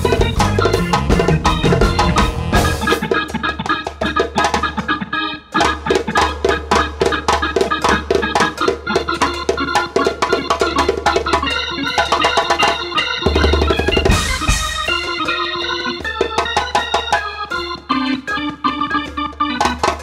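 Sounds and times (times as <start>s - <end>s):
busy jazz drumming: 0.0s - 20.0s
organ-like keyboard chords: 0.0s - 20.0s.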